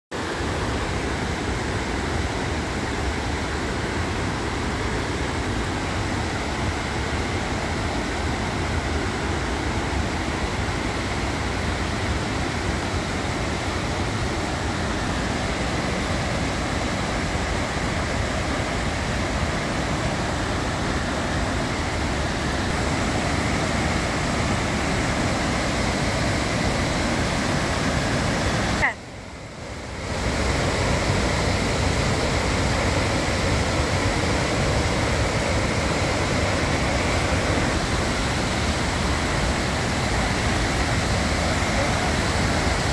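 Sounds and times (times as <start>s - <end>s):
white water rushing: 0.1s - 42.9s.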